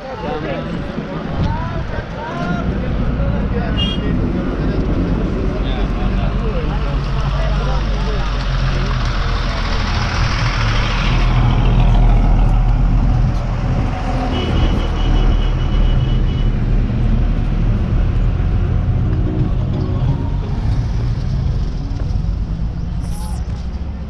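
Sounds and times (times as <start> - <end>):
road noise: 0.0 - 24.0.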